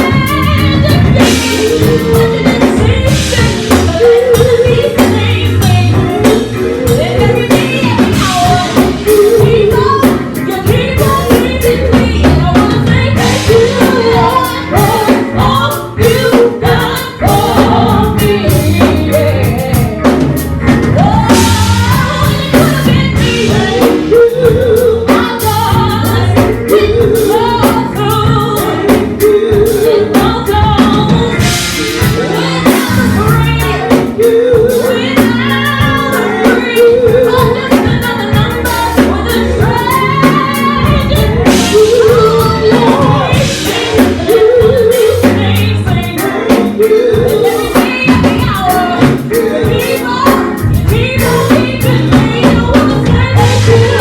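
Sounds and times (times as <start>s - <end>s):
church band with bass and drums: 0.0s - 54.0s
gospel singers: 0.0s - 54.0s.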